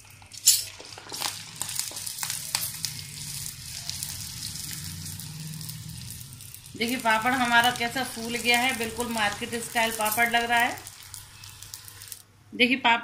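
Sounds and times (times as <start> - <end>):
food sizzling in hot oil: 0.0 - 12.3.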